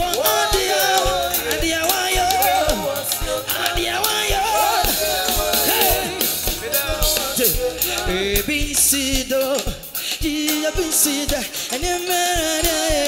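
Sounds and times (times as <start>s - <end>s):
keyboard: 0.0s - 13.0s
person singing into a microphone: 0.0s - 13.0s
steady drum beat: 0.0s - 13.0s.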